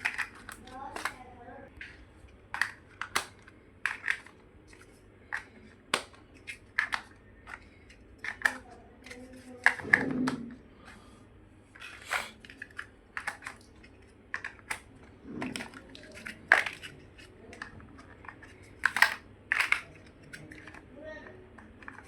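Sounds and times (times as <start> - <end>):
plastic bricks clicking and snapping: 0.0 - 1.2, 2.5 - 10.4, 11.8 - 20.9, 21.6 - 22.0.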